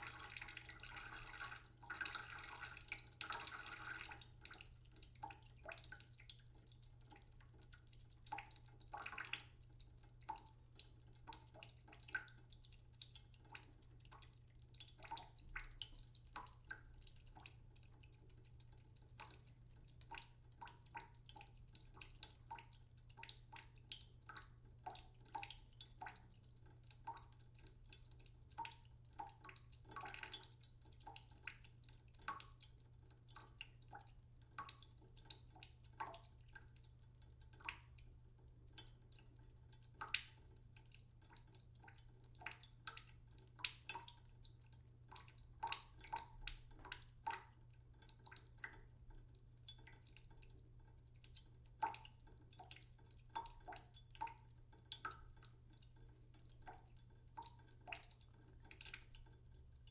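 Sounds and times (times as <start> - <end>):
water dripping into a pot: 0.0 - 59.9.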